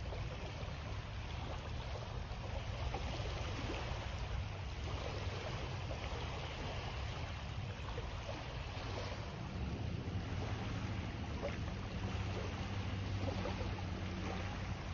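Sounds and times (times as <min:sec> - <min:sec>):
water lapping at shore: 0:00.0 - 0:14.9.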